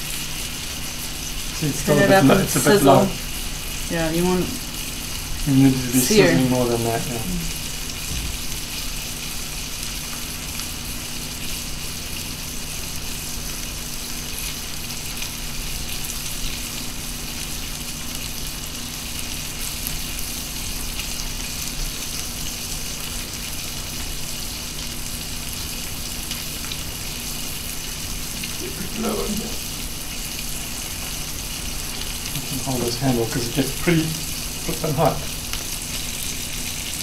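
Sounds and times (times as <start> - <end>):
meat sizzling in hot fat: 0.0 - 37.0.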